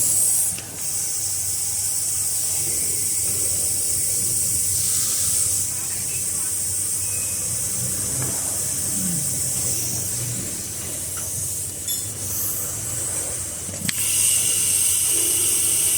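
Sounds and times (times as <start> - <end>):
compressed air hissing: 0.0 - 15.9
low machine hum: 0.0 - 15.9.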